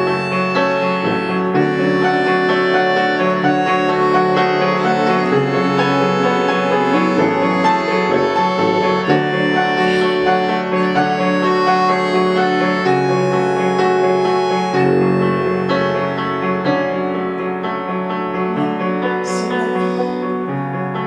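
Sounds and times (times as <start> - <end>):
band playing long held notes: 0.0 - 16.9.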